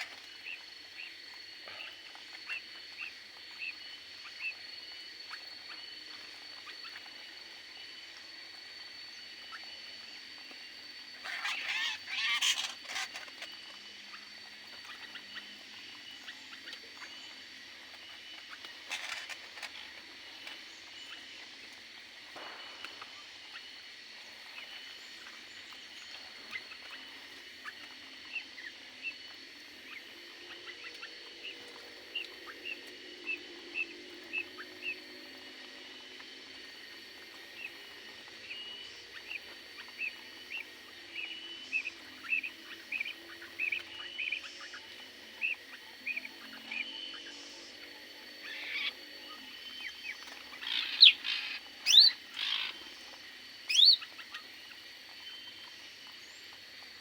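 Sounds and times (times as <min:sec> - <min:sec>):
small birds chirping: 0:00.0 - 0:35.4, 0:36.2 - 0:57.0
faint high whine: 0:00.0 - 0:57.0.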